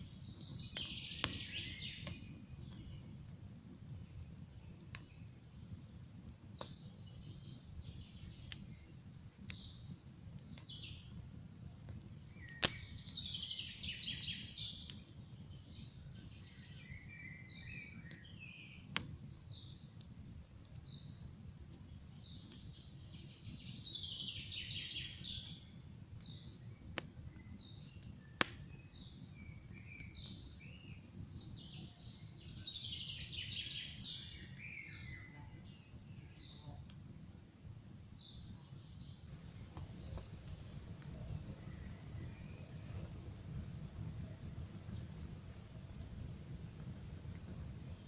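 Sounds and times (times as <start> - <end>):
campfire crackling and popping: 0.0 - 48.0
songbirds singing: 0.0 - 48.0.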